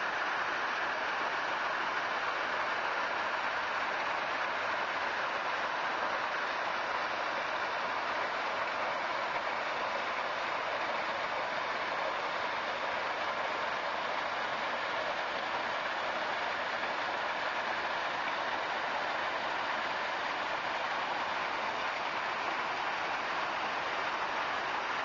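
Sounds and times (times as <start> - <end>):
waterfall rushing over boulders: 0.0 - 25.0.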